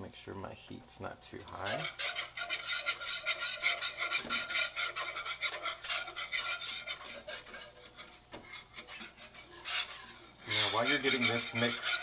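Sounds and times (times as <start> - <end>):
metal whisk scraping frying pan: 1.3 - 12.0.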